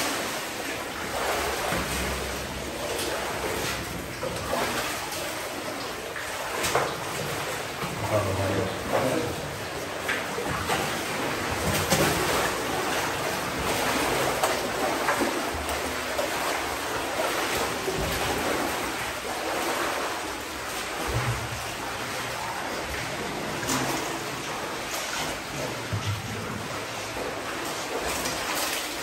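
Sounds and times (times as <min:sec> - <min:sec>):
water sloshing around wading legs: 0:00.0 - 0:29.0.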